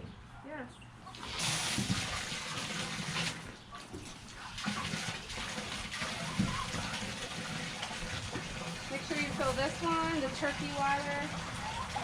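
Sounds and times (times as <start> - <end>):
hose water pouring into bucket: 1.1 - 3.6, 4.2 - 12.0.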